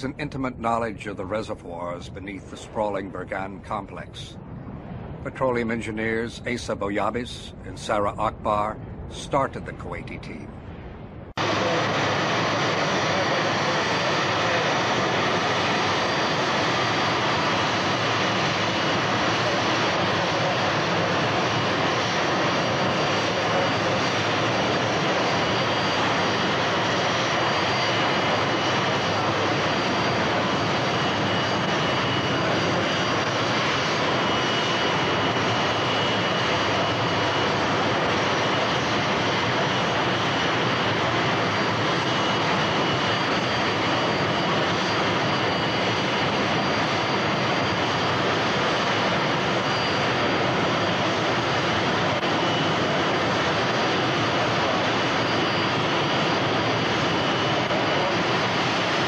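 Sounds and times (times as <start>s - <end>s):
faint high whine: 0.0s - 59.0s
jet engine roar: 0.0s - 59.0s.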